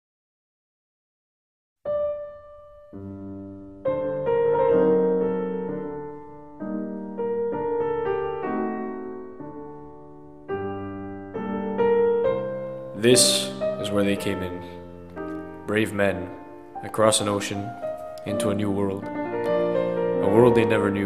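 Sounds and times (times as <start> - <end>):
slow piano chords: 1.9 - 21.0.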